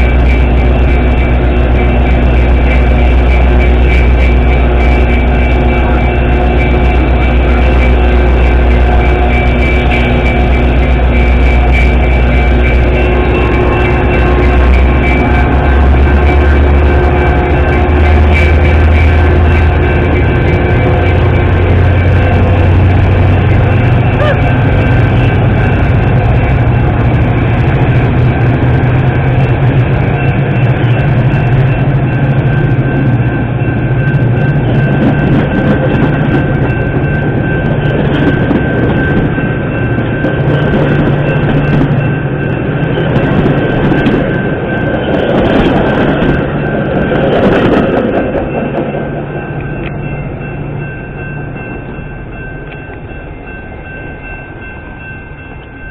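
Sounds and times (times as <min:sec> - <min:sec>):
crossing bells ringing: 0:00.0 - 0:55.9
diesel locomotive engines droning: 0:00.0 - 0:55.9
train coaches clattering over rails: 0:00.0 - 0:55.9.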